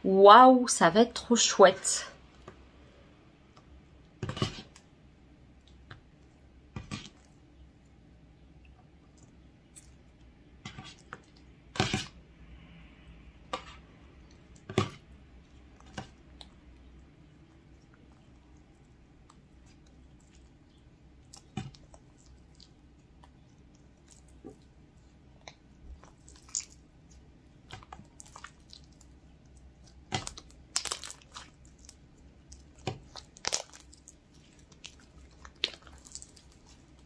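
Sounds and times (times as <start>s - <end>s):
slime squelching: 1.7s - 37.0s.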